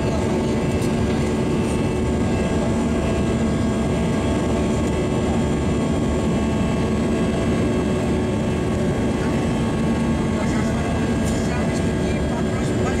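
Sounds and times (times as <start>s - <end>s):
jet cabin engine roar: 0.0s - 13.0s.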